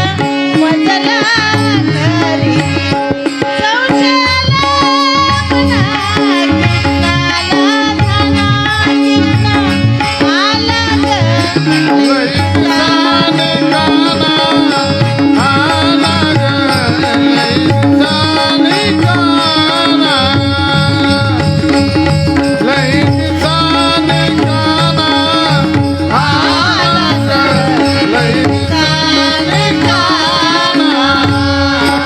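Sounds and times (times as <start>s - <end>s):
held drone: 0.0s - 32.0s
tabla playing rhythm: 0.0s - 32.0s.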